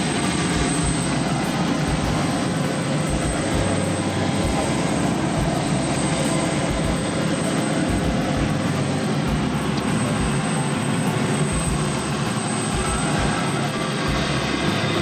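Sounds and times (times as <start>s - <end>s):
engine drone: 0.0s - 15.0s
rushing noise: 0.0s - 15.0s.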